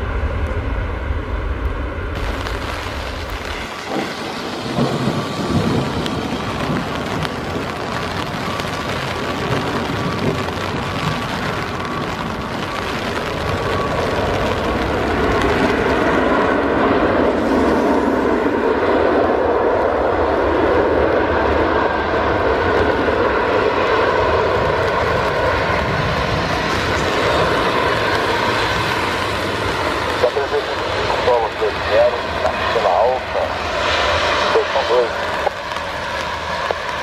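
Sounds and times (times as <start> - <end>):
jet engines roaring: 0.0 - 37.0
rain hissing and spray: 1.6 - 37.0.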